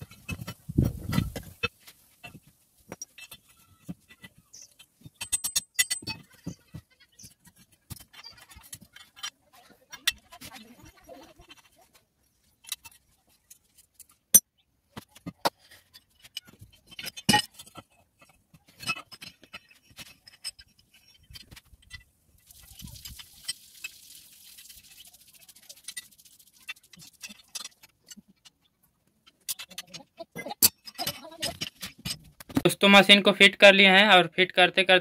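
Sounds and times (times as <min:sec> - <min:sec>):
metal pump parts clinking: 0:00.0 - 0:10.6, 0:12.5 - 0:14.4, 0:15.2 - 0:32.7.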